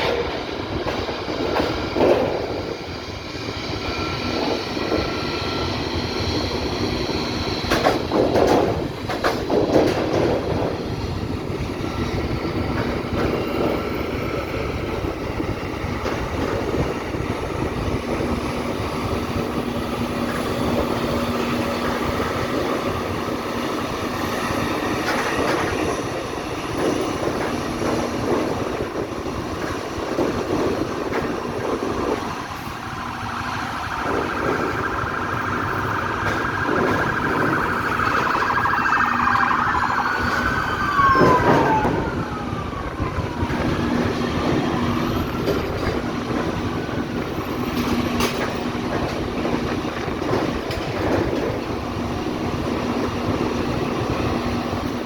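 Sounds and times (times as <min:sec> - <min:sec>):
jet airliner engine whine: 0:00.0 - 0:55.0
road traffic noise: 0:01.6 - 0:55.0.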